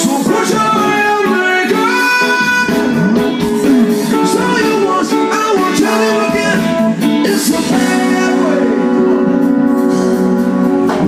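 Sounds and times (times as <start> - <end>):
song with guitar and singing: 0.0 - 11.0.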